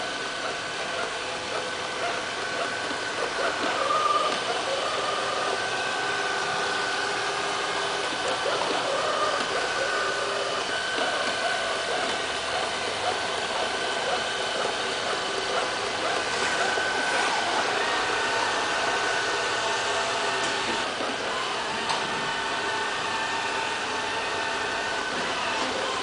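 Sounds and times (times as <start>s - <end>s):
robot vacuum cleaner whirring: 0.0s - 26.0s.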